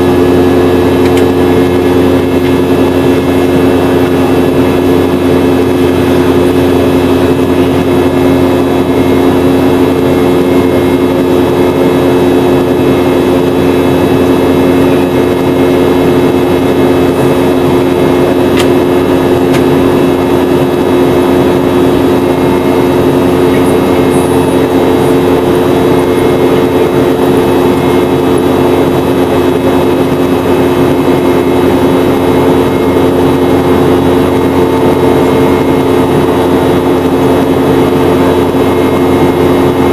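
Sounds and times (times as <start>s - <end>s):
jet engines heard in cabin: 0.0s - 39.9s.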